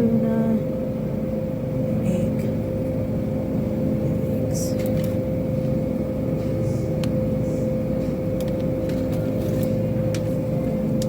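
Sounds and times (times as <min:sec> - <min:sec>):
machine hum with held tone: 0:00.0 - 0:11.0.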